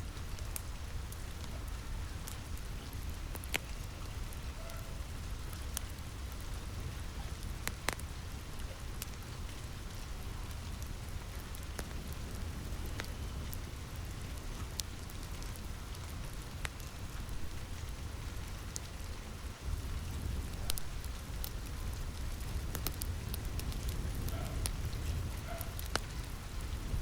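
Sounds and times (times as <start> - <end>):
rain pattering on a roof: 0.0 - 27.0
wood fire crackling pops: 0.1 - 4.8, 5.4 - 27.0.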